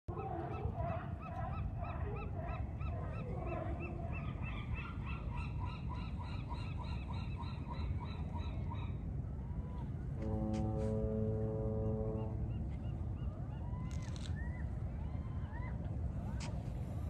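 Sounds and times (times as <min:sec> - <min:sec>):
gulls calling: 0:00.1 - 0:16.6
wind rumble on microphone: 0:02.6 - 0:17.0.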